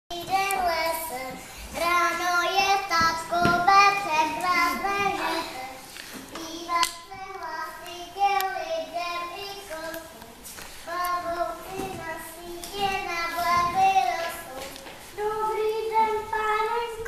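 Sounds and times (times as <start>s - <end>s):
children singing: 0.1s - 10.2s, 10.9s - 17.0s.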